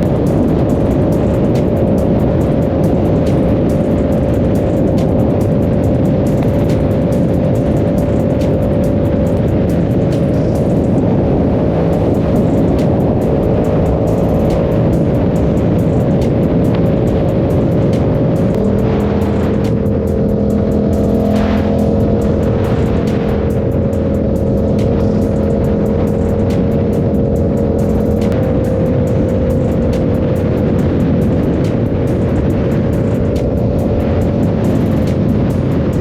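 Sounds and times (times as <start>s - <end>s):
motorcycle engine cruising: 0.0s - 36.0s
rush of noise: 0.0s - 36.0s.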